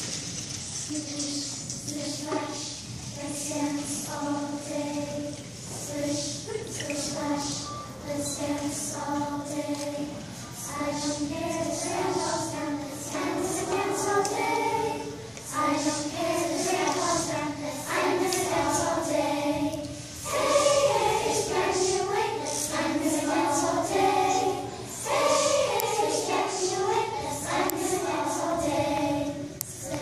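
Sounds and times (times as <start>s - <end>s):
children's choir singing: 0.8s - 30.0s.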